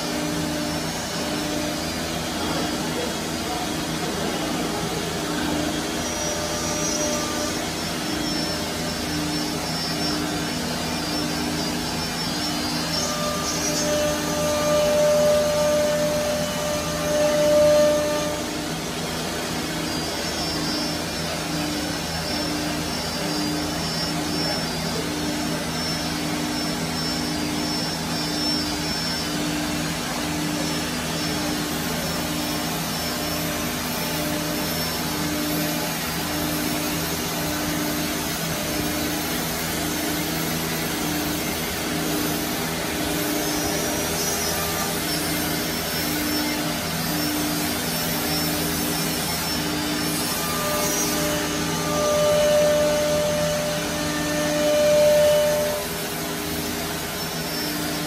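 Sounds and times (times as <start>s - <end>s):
router machine whirring: 0.0s - 58.0s.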